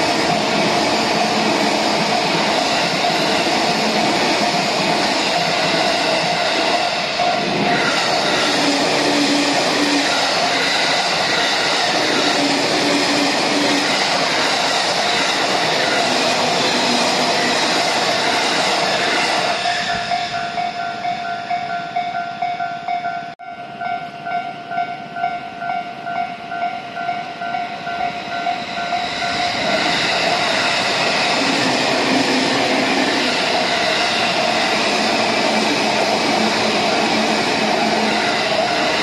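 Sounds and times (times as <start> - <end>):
electric train passing: 0.0 - 39.0
train wheels rumbling on rail: 0.0 - 39.0.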